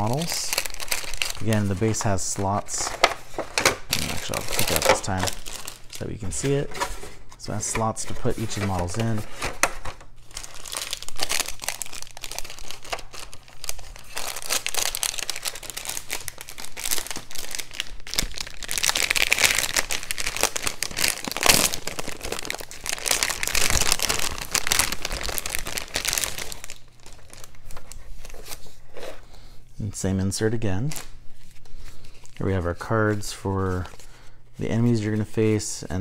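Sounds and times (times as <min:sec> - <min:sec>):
plastic wrapping crinkling: 0:00.0 - 0:29.3.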